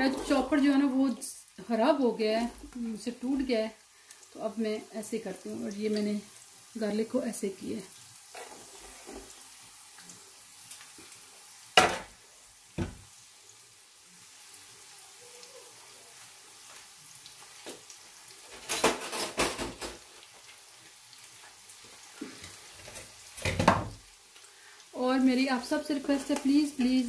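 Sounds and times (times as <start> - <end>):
onion and garlic sizzling in oil: 0.0 - 27.0.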